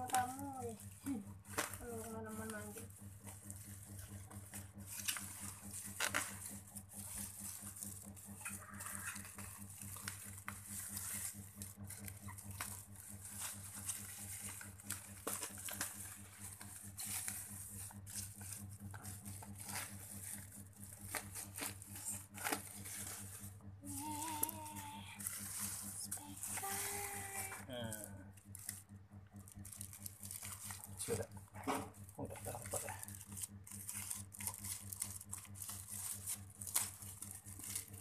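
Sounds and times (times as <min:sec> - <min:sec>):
plastic packaging crinkling: 0:00.0 - 0:38.0
steady low hum: 0:00.0 - 0:38.0.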